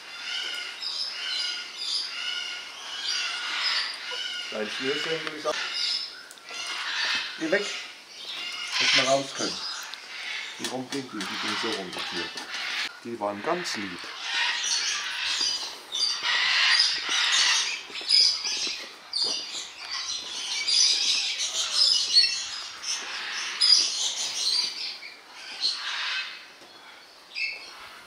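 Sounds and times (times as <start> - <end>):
birds chattering and squawking: 0.0 - 28.0.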